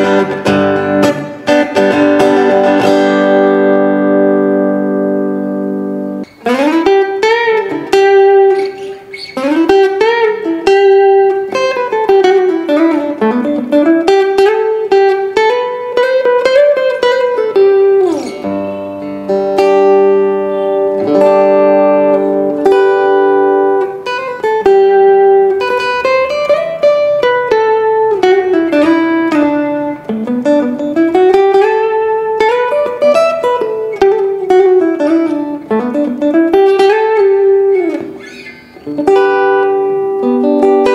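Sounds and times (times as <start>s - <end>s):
guitar plucked melody over chords: 0.0s - 40.9s.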